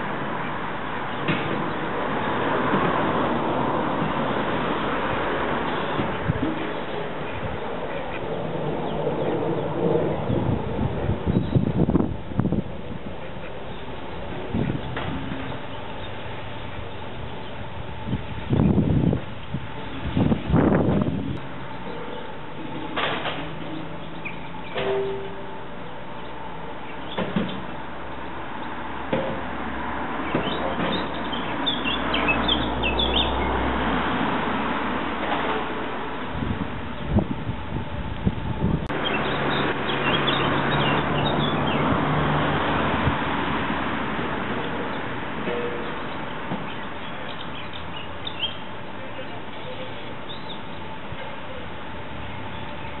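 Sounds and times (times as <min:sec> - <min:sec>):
outdoor background: 0:00.0 - 0:53.0.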